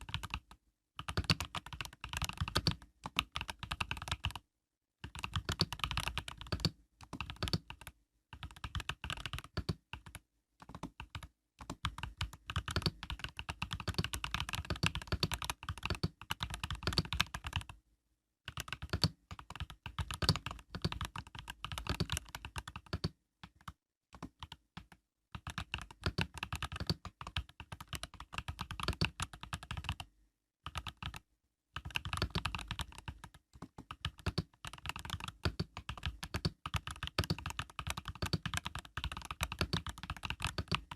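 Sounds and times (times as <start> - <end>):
mechanical keyboard typing: 0.0 - 4.4, 5.0 - 17.8, 18.5 - 30.1, 30.7 - 31.2, 31.8 - 40.9.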